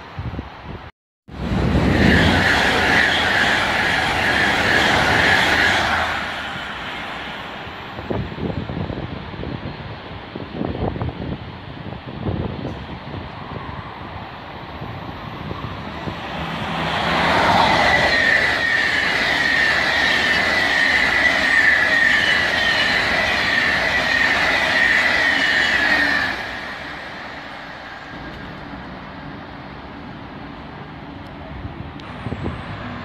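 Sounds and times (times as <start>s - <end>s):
train passing at speed: 1.3s - 33.0s.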